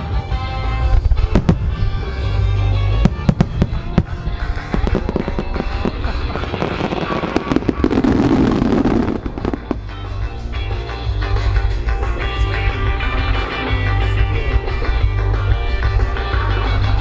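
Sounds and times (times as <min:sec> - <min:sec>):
fireworks bangs and crackles: 0:00.0 - 0:17.0
music: 0:00.0 - 0:17.0.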